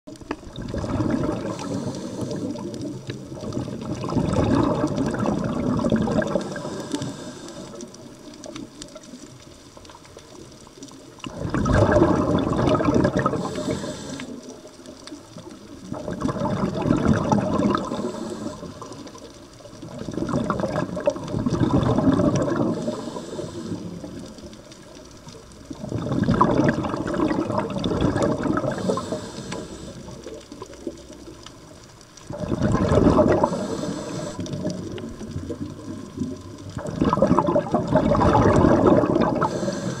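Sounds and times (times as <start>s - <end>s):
regulator exhaling bubbles underwater: 0.1s - 9.2s, 11.0s - 40.0s.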